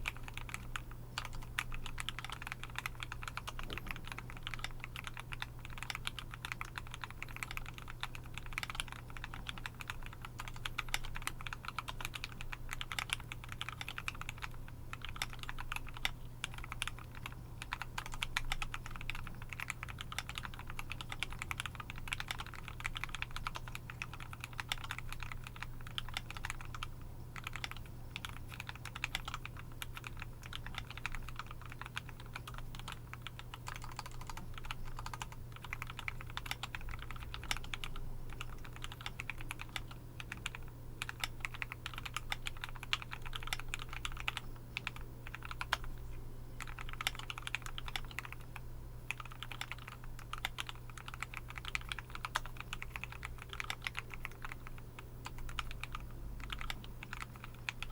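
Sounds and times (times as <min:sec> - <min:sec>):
mechanical keyboard typing: 0:00.0 - 0:46.0, 0:46.6 - 0:48.5, 0:49.1 - 0:57.9.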